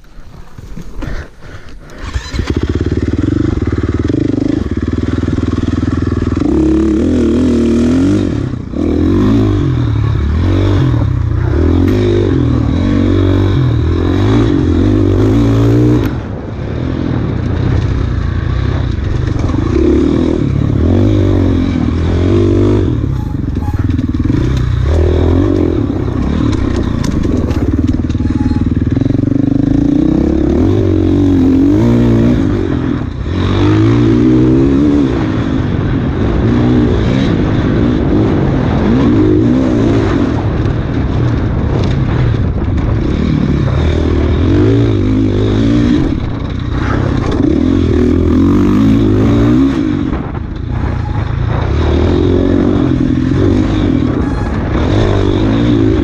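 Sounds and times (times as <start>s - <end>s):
bike rattling and scraping: 0.0s - 56.0s
dirt bike engine revving: 1.1s - 56.0s.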